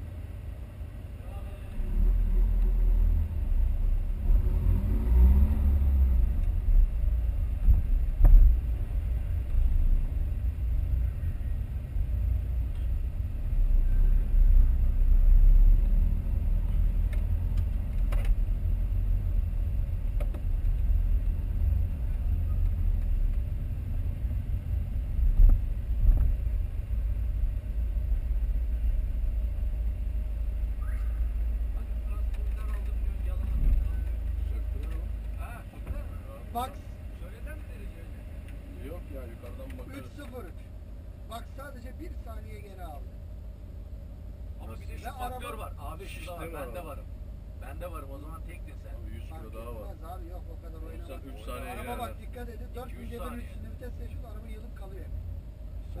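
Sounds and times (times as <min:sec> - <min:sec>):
car cabin engine rumble: 0:00.0 - 0:56.0.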